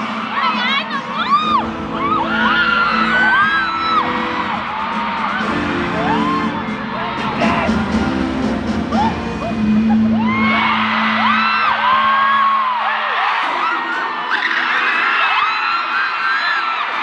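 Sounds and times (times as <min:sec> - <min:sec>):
concert intro music: 0:00.0 - 0:15.4
crowd screaming and cheering: 0:00.0 - 0:17.0.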